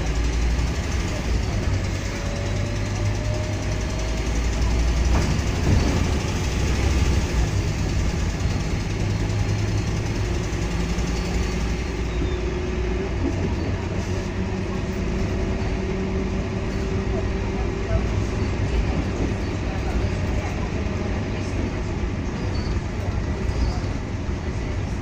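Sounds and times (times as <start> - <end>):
bus engine hum from inside: 0.0 - 25.0.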